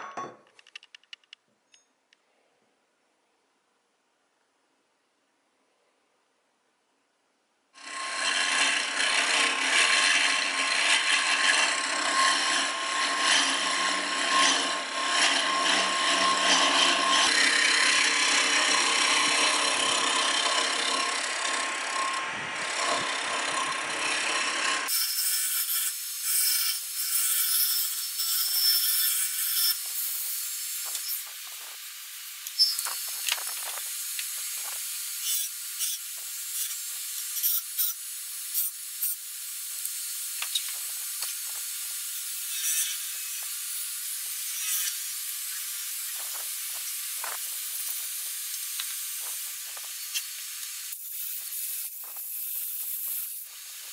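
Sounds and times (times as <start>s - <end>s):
wood lathe cutting wood: 7.8s - 53.9s.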